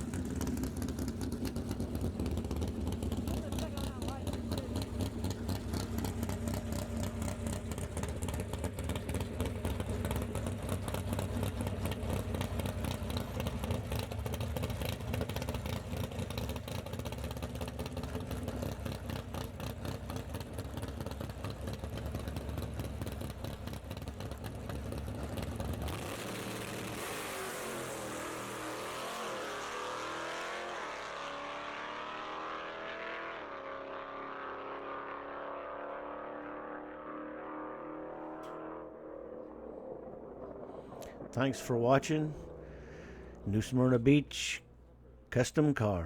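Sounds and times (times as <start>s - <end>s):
drag car engine running: 0.0s - 32.1s, 36.9s - 46.0s.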